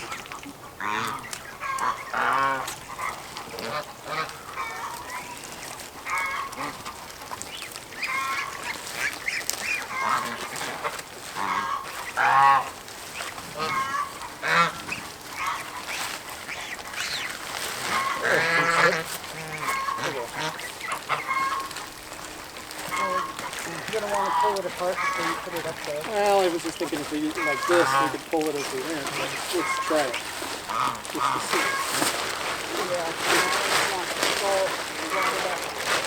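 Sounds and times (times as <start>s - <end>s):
geese honking: 0.0s - 36.0s.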